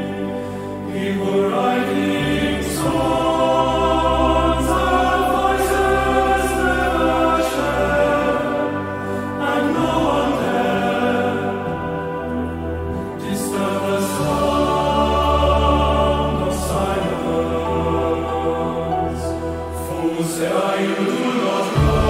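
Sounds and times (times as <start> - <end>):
choir holding wordless chords: 0.0 - 22.0.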